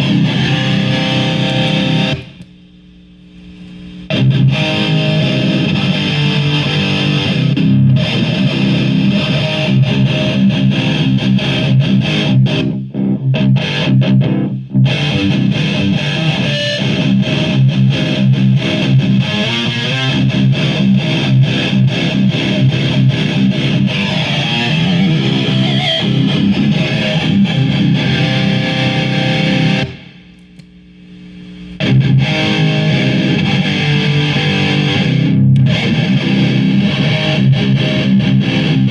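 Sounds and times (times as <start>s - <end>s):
distorted electric guitar riff: 0.0s - 2.5s, 4.1s - 30.4s, 31.8s - 38.9s.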